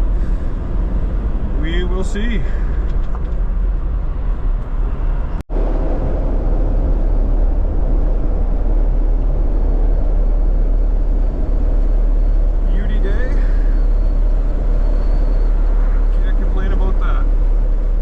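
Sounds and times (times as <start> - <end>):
vehicle engine and tyre rumble: 0.0 - 18.0.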